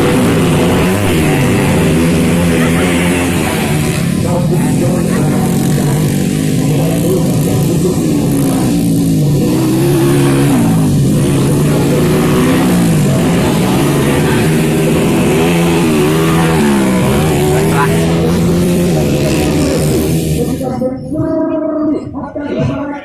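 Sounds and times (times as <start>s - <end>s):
dirt-bike engines racing: 0.0s - 23.0s.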